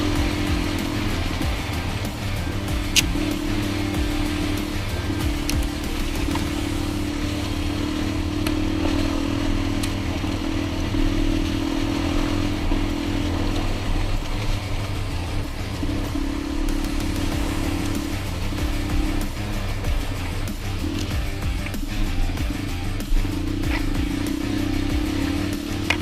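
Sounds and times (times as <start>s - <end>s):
dirt bike engine running: 0.0s - 26.0s
road noise: 0.0s - 26.0s.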